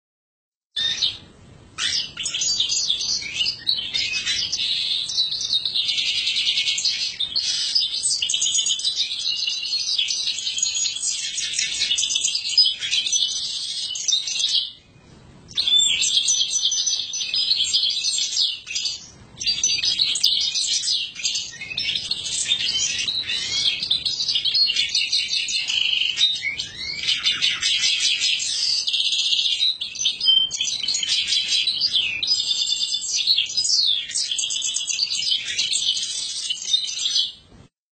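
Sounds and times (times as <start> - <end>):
canary singing trills: 0.8 - 37.5.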